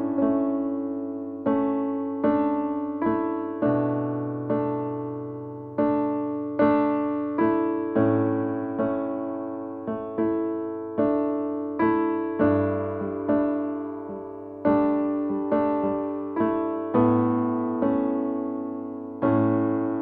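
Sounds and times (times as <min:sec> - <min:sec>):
slow solo piano: 0:00.0 - 0:20.0.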